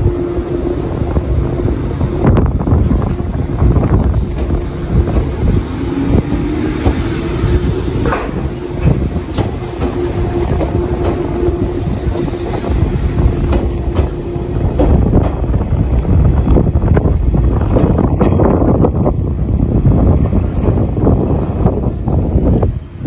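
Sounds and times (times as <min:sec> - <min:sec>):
electric train rumbling past: 0:00.0 - 0:23.0
wheels clicking over rails: 0:02.6 - 0:21.2.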